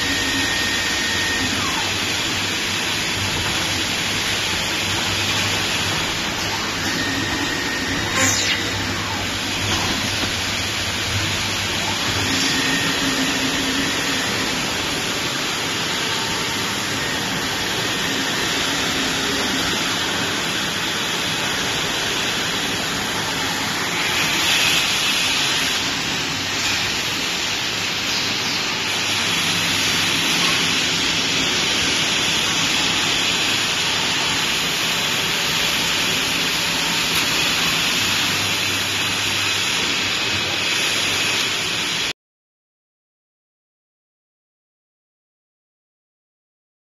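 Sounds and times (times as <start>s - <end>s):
lathe machine hissing: 0.0s - 41.8s.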